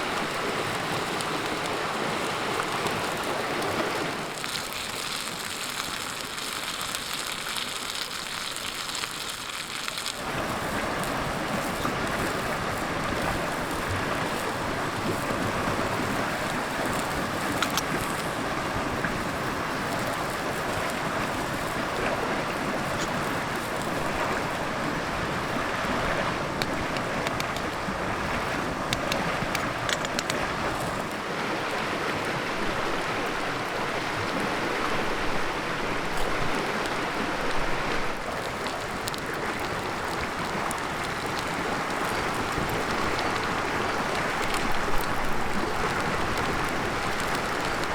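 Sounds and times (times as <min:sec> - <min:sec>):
river water rushing over rocks: 0:00.0 - 0:47.9.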